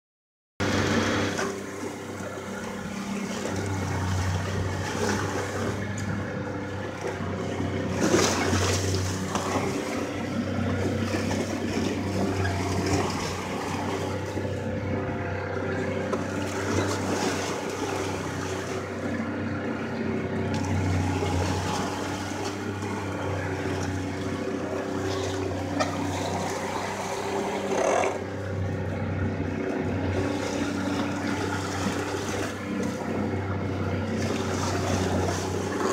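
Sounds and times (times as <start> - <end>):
boat engine running: 0.6 - 35.9
water rushing and splashing: 0.6 - 35.9.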